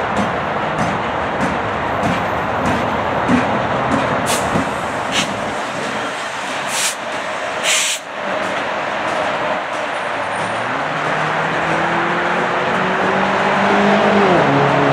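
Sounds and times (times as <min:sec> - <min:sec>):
diesel locomotive engines rumbling: 0:00.0 - 0:14.9
train wheels on rails: 0:00.0 - 0:14.9.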